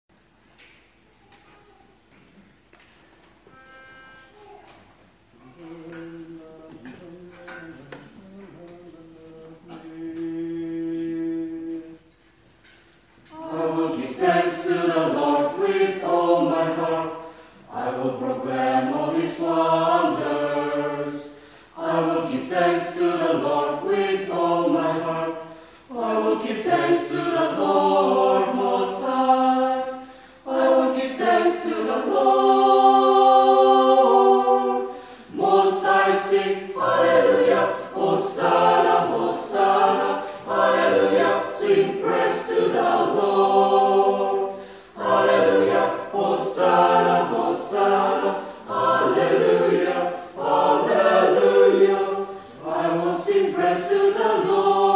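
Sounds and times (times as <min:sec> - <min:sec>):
choir singing unaccompanied: 0:05.4 - 0:12.3, 0:13.3 - 0:54.9.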